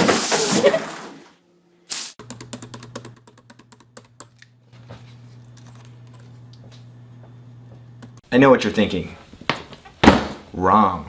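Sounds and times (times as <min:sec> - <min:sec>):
steady low hum: 0:01.5 - 0:11.0.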